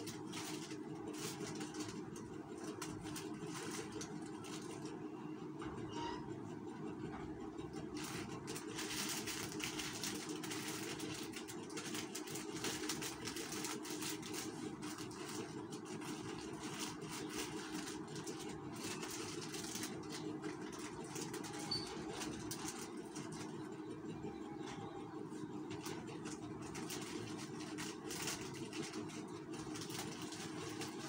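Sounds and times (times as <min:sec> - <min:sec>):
plastic sachets crinkling: 0:00.0 - 0:05.0, 0:08.0 - 0:23.6, 0:25.7 - 0:31.0
low mechanical hum: 0:00.0 - 0:31.0.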